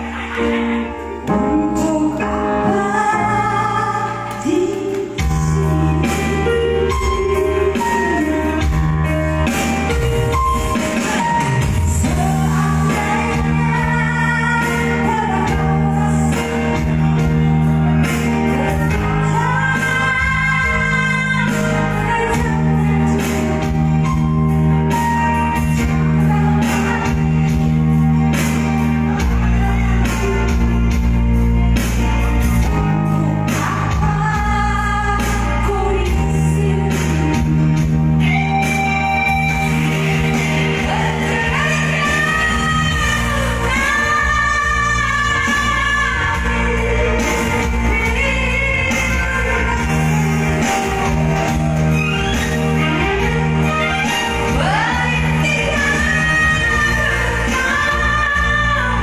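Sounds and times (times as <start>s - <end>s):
electronic keyboard accompaniment: 0.0s - 59.0s.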